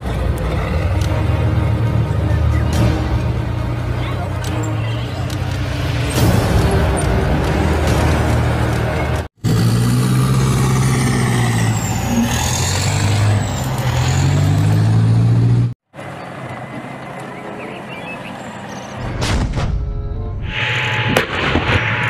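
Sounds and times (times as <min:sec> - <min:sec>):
quieter vehicle noise: 0:00.0 - 0:19.3
armoured vehicle engine whining: 0:00.0 - 0:22.0.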